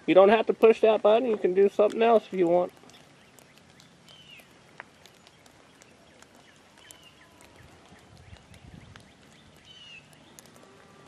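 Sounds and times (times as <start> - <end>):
small birds chirping: 1.4 - 11.0.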